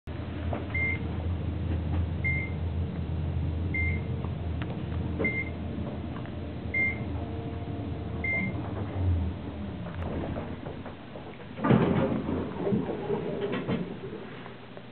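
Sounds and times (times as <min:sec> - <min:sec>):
elevator cab humming: 0:00.1 - 0:14.8.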